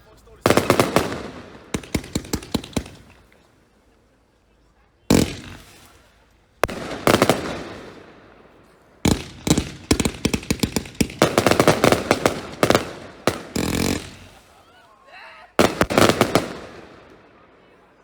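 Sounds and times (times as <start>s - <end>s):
firework bangs and crackling: 0.0s - 3.8s, 5.1s - 14.7s, 15.6s - 17.9s.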